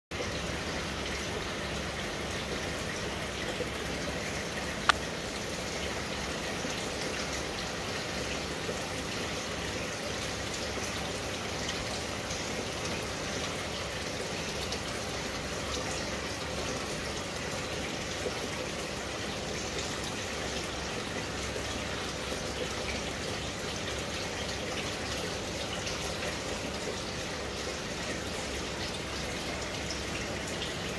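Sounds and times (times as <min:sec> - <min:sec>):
aquarium water bubbling: 0:00.1 - 0:30.9.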